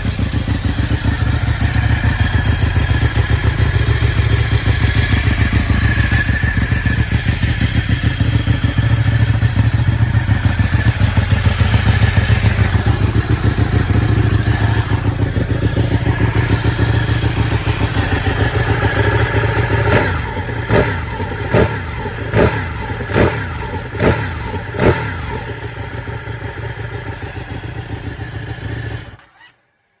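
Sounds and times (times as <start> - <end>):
motorcycle engine revving: 0.0 - 29.5.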